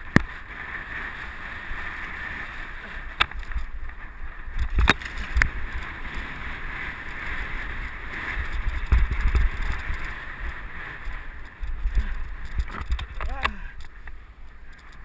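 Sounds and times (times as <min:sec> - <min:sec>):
tyres rolling on dirt trail: 0:00.0 - 0:15.0
wind buffeting microphone: 0:02.5 - 0:15.0.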